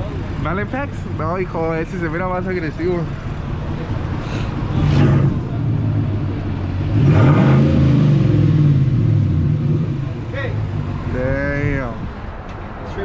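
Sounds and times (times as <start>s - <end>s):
vehicle engine idling and revving: 0.0s - 13.0s.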